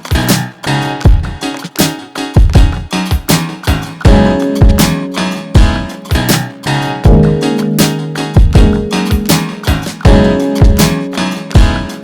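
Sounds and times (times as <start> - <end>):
strummed guitar over a beat: 0.0 - 12.0.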